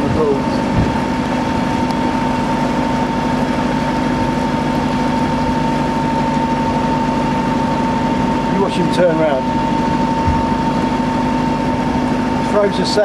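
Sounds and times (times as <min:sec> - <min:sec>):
boat engine running at low revs: 0:00.0 - 0:13.0
constant engine whine: 0:00.0 - 0:13.0.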